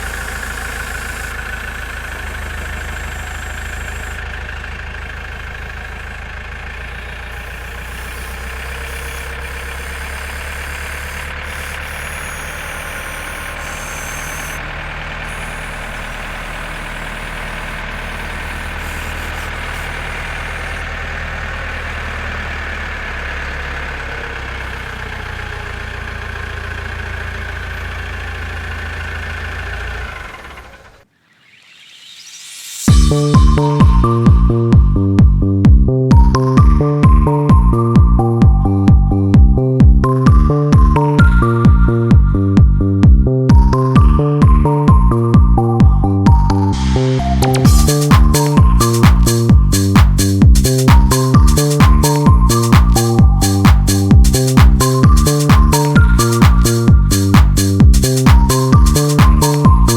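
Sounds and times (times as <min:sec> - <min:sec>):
high whine: 0:00.0 - 0:24.8, 0:31.2 - 0:59.9
diesel engine running: 0:00.0 - 0:59.9.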